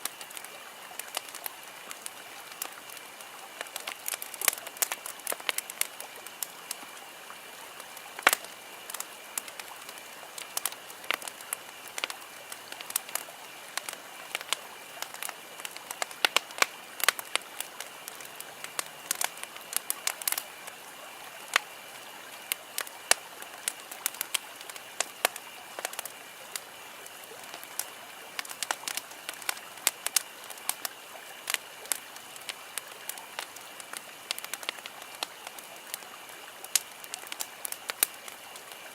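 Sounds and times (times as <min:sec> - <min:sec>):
campfire crackling and popping: 0:00.0 - 0:38.9
low hiss: 0:00.0 - 0:38.9.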